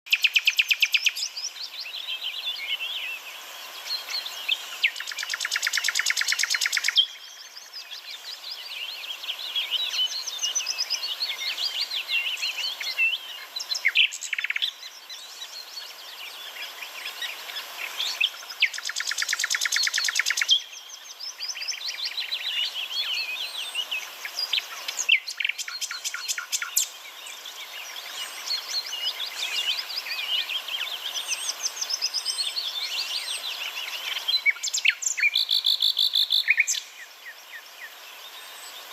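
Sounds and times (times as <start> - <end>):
songbird chirping and twittering: 0.1 - 38.9.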